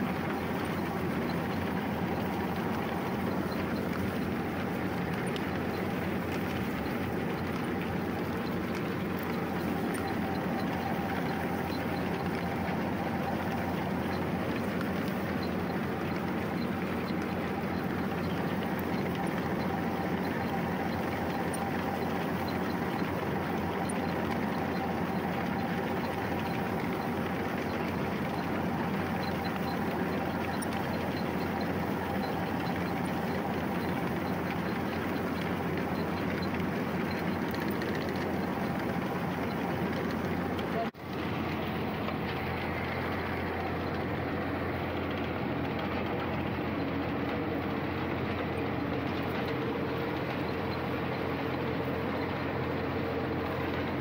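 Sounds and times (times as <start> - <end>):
faint steady whine: 0.0 - 54.0
tractor running: 0.0 - 54.0.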